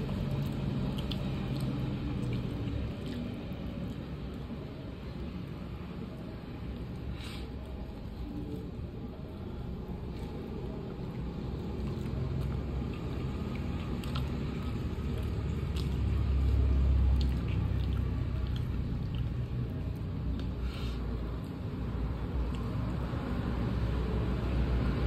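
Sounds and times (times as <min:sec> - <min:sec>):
chewing: 0:00.0 - 0:04.7, 0:06.8 - 0:23.2
hand squishing food: 0:00.0 - 0:06.2, 0:06.9 - 0:23.9.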